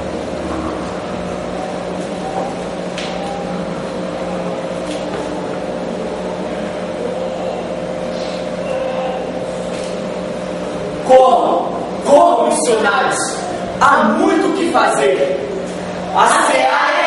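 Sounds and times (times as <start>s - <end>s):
electrical hum with low drone: 0.0s - 17.0s.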